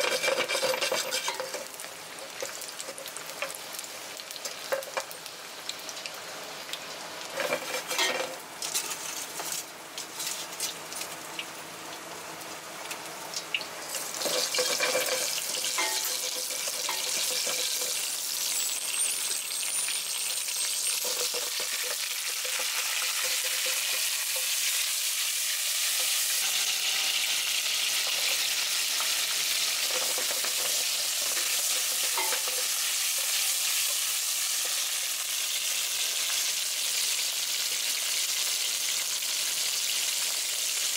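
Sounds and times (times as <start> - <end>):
oil sizzling in a frying pan: 0.0 - 40.9.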